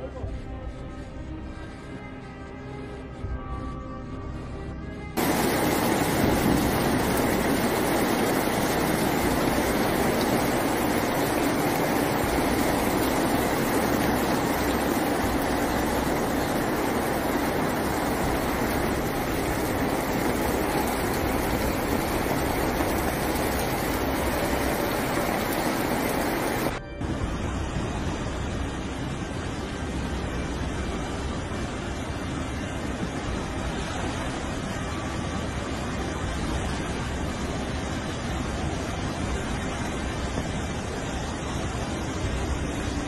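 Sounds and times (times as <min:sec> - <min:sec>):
music: 0:00.0 - 0:43.0
heavy rain pouring: 0:05.2 - 0:43.0.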